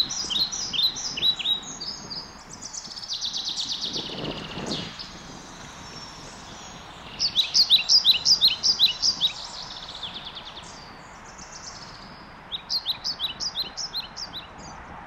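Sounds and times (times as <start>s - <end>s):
songbird singing: 0.0s - 15.0s
steady background hiss: 0.0s - 15.0s.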